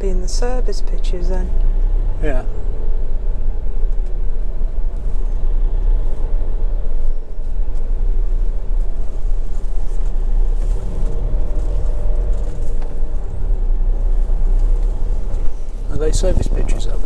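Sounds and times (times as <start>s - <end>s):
diesel engine running: 0.0s - 17.0s
tyres rolling on tarmac: 3.2s - 17.0s.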